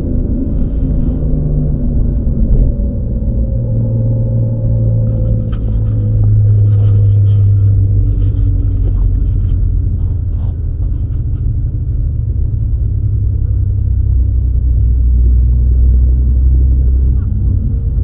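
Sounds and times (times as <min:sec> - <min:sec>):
car engine droning at low revs: 0:00.0 - 0:18.0.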